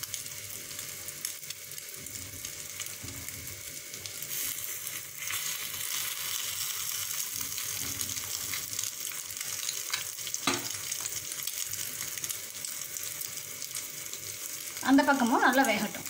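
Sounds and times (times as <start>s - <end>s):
batter sizzling in hot oil: 0.0s - 16.0s.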